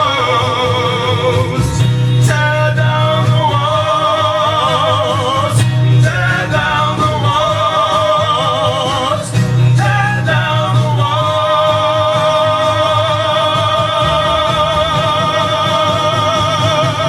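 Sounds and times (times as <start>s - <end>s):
male duo singing in harmony: 0.0s - 17.0s.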